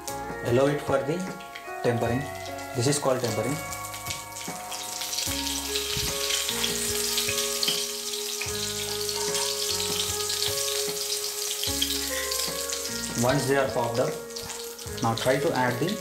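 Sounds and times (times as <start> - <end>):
seeds sizzling in hot oil: 1.2 - 16.0.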